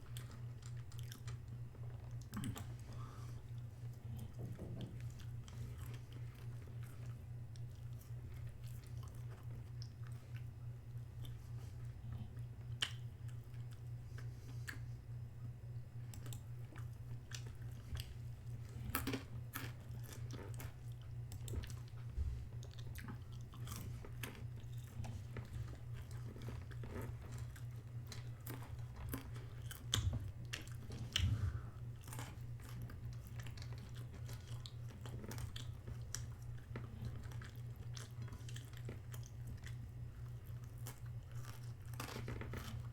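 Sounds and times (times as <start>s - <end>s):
low electrical hum: 0.0s - 42.9s
person chewing food: 0.0s - 42.9s.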